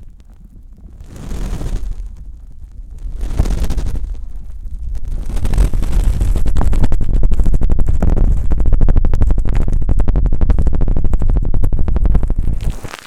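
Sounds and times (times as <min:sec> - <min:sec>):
heavy rumble: 0:00.0 - 0:13.0
wet crackling on microphone: 0:00.0 - 0:13.0.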